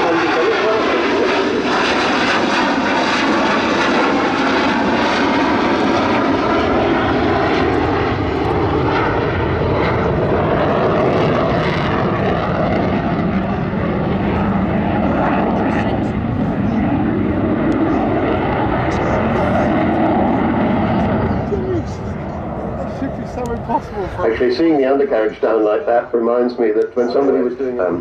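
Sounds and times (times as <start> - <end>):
jet bomber flying past: 0.0 - 28.0.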